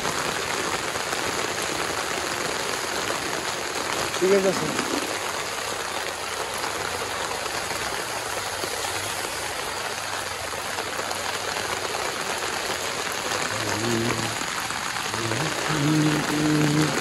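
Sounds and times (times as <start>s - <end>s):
heavy rain on flooded street: 0.0s - 17.0s.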